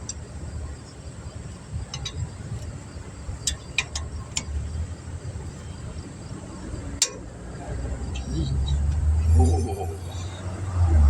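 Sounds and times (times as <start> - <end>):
low rumble of wind or traffic: 0.0 - 11.0.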